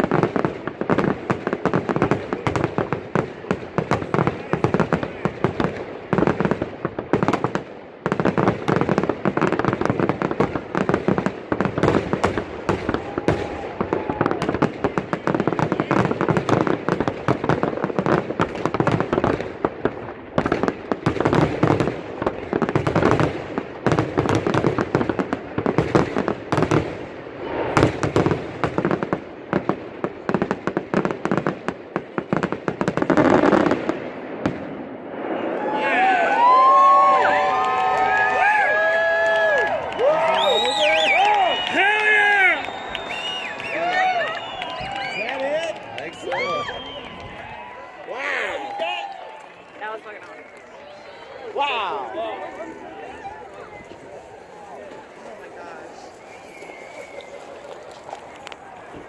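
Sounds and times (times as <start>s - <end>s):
fireworks banging: 0.0s - 59.0s.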